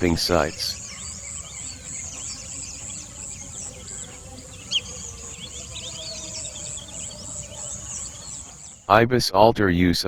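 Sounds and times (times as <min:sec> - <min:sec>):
small birds chirping: 0:00.0 - 0:09.0
pulsing high insect buzz: 0:00.2 - 0:08.8.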